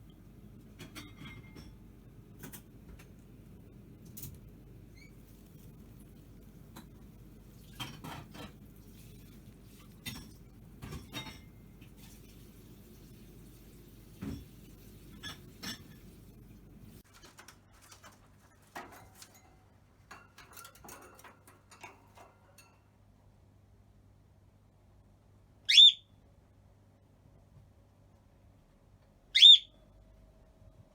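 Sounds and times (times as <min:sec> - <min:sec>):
low background hum: 0:00.0 - 0:30.9.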